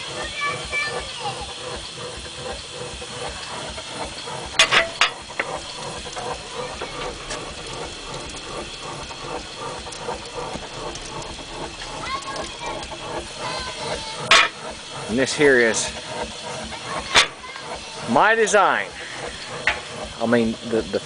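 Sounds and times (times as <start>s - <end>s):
wood fire hissing and crackling: 0.0s - 21.0s.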